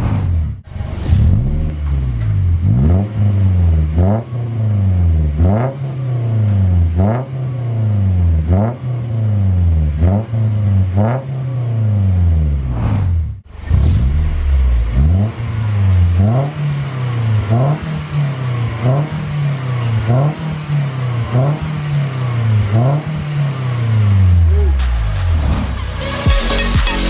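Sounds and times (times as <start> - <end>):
pickup engine revving: 0.0 - 27.0.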